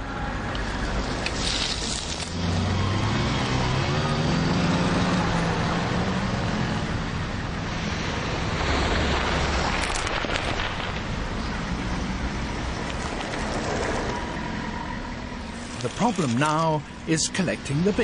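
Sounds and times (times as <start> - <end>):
cars driving past: 0.0 - 18.0.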